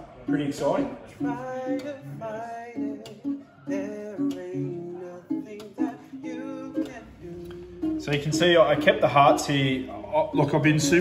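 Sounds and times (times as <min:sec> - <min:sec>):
acoustic guitar melody: 0:00.0 - 0:11.0.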